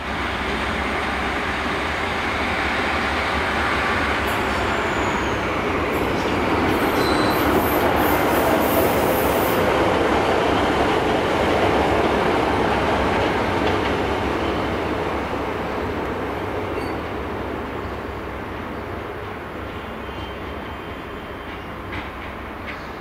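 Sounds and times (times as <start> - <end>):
train wheels on track: 0.0 - 23.0.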